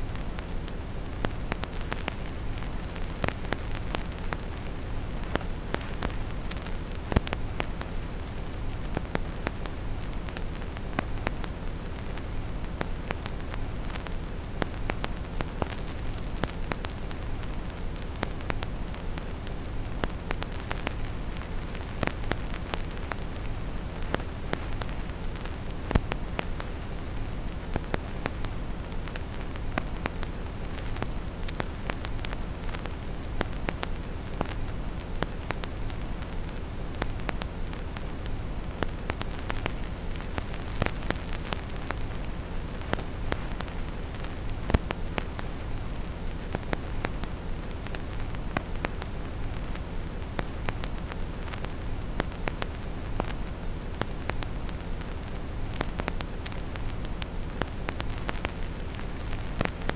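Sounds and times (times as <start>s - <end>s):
rumbling hiss: 0.0s - 59.9s
vinyl crackles and pops: 0.0s - 59.9s.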